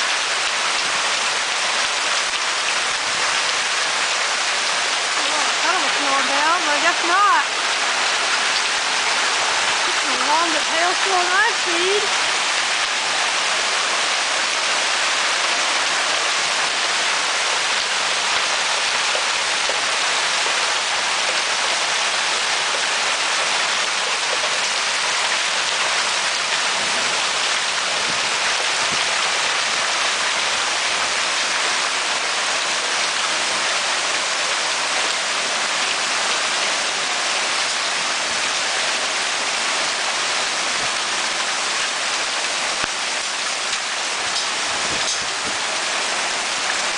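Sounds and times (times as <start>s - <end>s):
hail falling: 0.0s - 46.9s.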